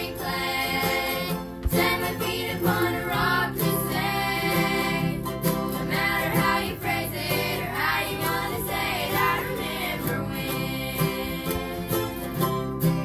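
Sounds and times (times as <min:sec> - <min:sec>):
children singing gospel song: 0:00.0 - 0:13.0
mandolin: 0:00.0 - 0:13.0
strummed acoustic guitars: 0:00.0 - 0:13.0.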